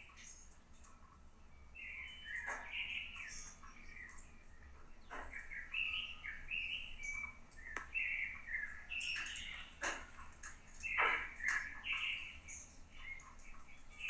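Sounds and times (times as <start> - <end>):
songbirds chirping and singing: 1.6 - 14.0.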